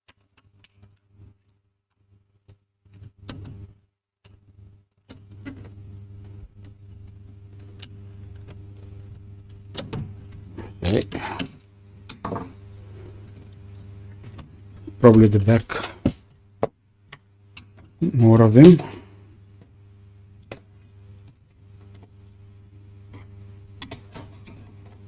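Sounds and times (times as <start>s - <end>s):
steady low hum: 2.2s - 25.0s.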